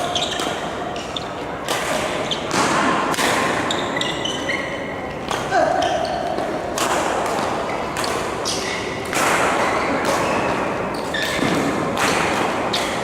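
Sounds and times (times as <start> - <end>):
shoes squeaking on court floor: 0.0 - 2.8, 3.4 - 6.6, 7.4 - 13.0
racket striking shuttlecock: 0.0 - 4.1, 6.3 - 13.0.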